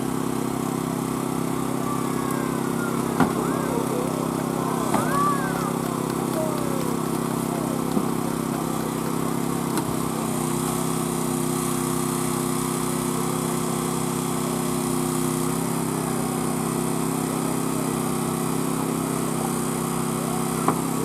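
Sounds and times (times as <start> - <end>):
small gasoline engine running: 0.0 - 21.0.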